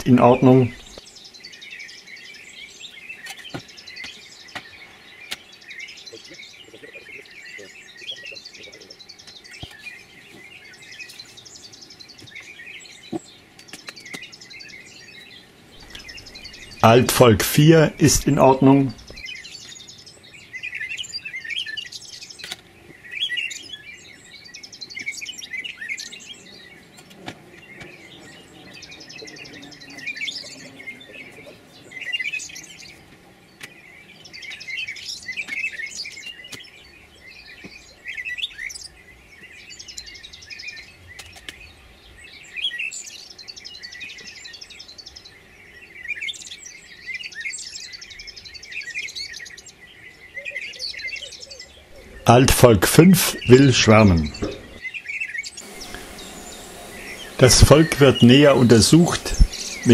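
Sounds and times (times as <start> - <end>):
songbirds singing with trills: 0.0 - 59.9.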